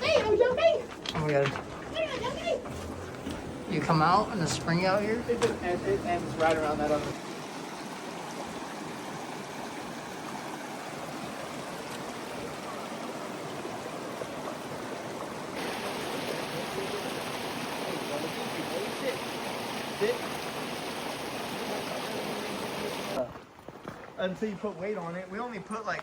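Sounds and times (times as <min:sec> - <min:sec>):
spring water flowing: 0:00.0 - 0:25.9.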